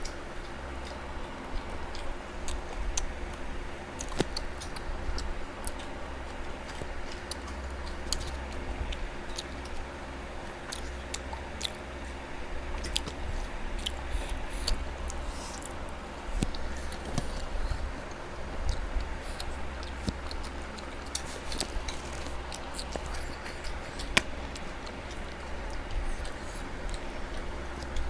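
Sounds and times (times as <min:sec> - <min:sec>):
chewing with mouth clicks: 0:00.0 - 0:28.0
steady low hum: 0:00.0 - 0:28.0.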